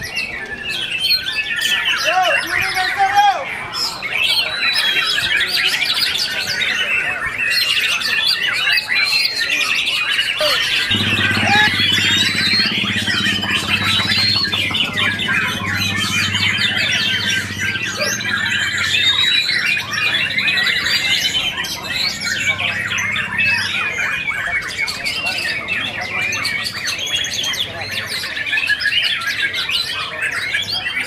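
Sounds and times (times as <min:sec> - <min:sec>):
birds singing in chorus: 0:00.0 - 0:31.0.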